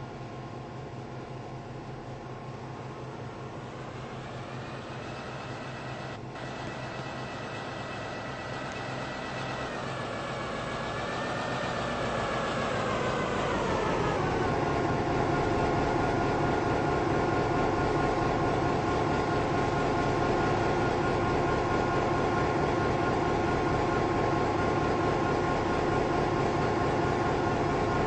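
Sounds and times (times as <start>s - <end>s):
steady high whine: 0.0s - 28.0s
train wheels rumbling on rail: 2.2s - 28.0s.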